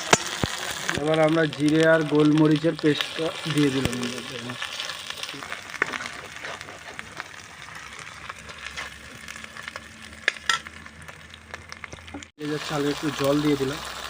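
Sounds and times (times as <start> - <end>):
oil crackling and popping: 0.0 - 14.0
paste sizzling in hot oil: 0.0 - 14.0.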